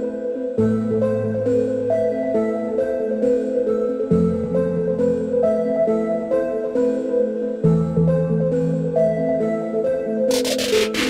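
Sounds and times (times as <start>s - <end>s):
calm background music: 0.0s - 11.0s.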